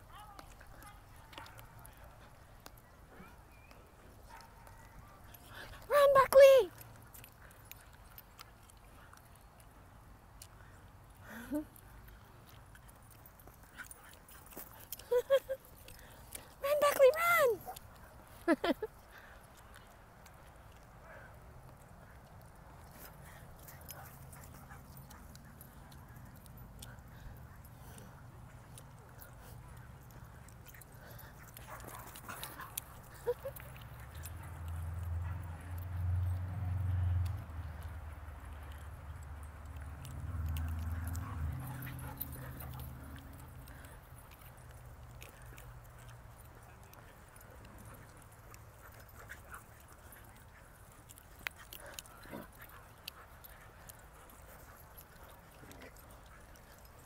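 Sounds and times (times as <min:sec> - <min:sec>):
dogs playing and running on grass: 0:00.0 - 0:57.0.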